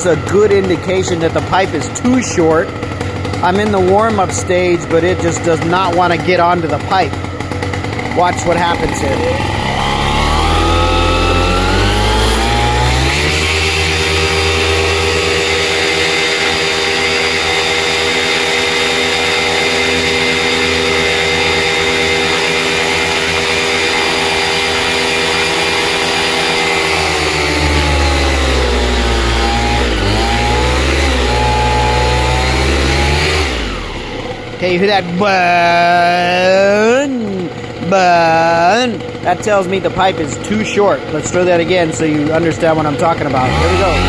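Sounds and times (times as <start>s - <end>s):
two-stroke engine revving: 0.0s - 44.0s.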